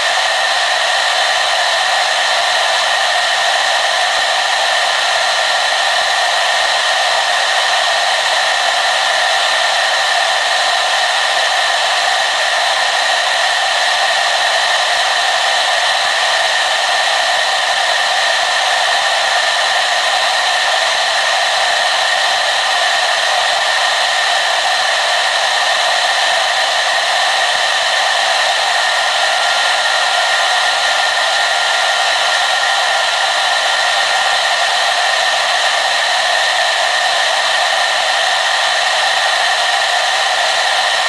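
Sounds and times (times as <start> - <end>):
hair dryer blowing: 0.0 - 41.0.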